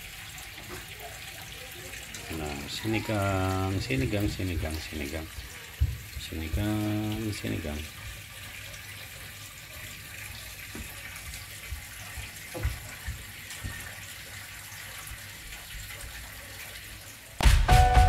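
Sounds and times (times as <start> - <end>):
water heating hiss: 0.0 - 18.0.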